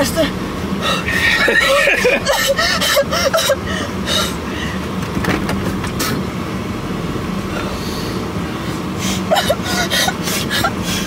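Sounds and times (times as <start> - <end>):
car heater blower rushing: 0.0 - 11.0.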